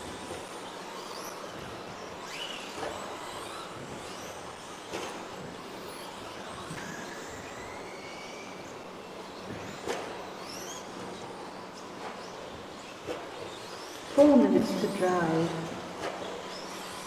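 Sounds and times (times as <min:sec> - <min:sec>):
electric toy truck motors whining: 0:00.0 - 0:17.0.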